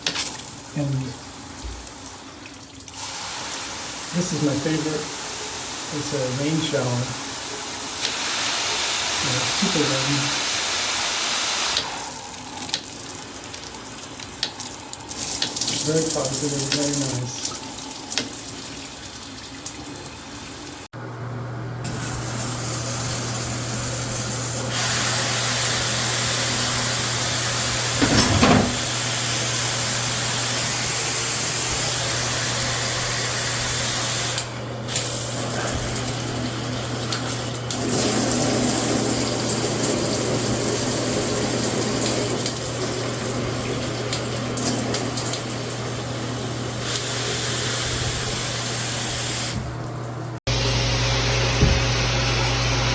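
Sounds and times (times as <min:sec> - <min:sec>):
shower spraying water: 0:00.0 - 0:20.9, 0:21.9 - 0:52.9.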